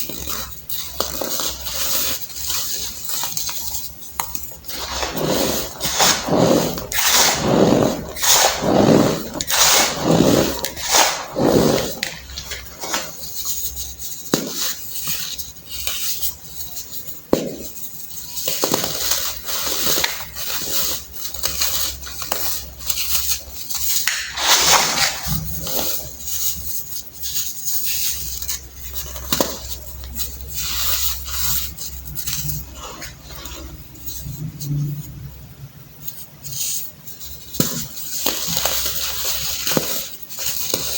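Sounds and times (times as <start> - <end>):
baking soda clumps crunching: 0.0 - 35.0, 36.5 - 40.9.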